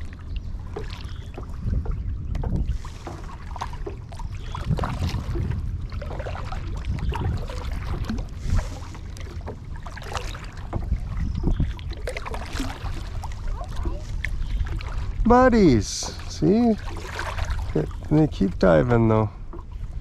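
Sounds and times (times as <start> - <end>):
water splashing around kayak: 0.0 - 20.0
wind rumbling on microphone: 0.0 - 20.0.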